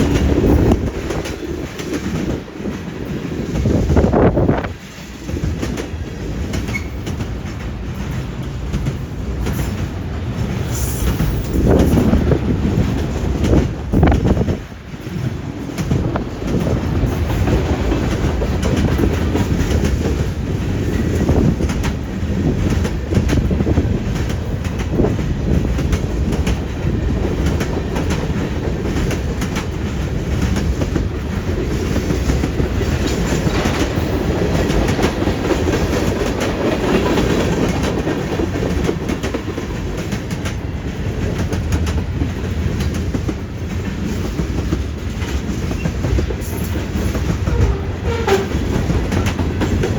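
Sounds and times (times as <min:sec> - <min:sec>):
freight train wheels clacking: 0:00.0 - 0:49.9.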